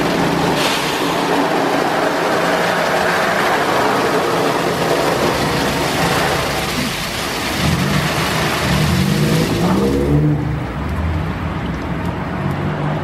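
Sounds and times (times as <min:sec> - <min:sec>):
hissing water spray: 0:00.0 - 0:10.5.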